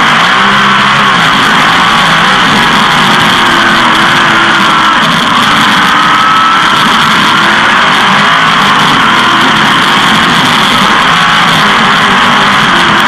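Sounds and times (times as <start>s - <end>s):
race car engine running hard: 0.0s - 13.0s.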